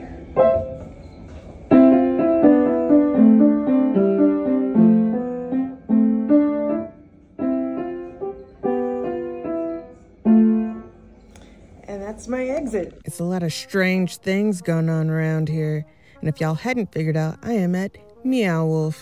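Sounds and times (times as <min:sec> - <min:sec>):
piano-toned keyboard playing: 0:00.0 - 0:11.6, 0:13.4 - 0:19.0.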